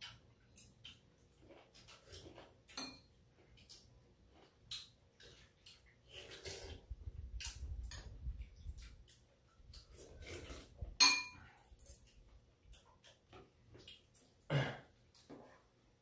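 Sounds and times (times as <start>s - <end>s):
chewing and sipping: 0.0s - 14.5s.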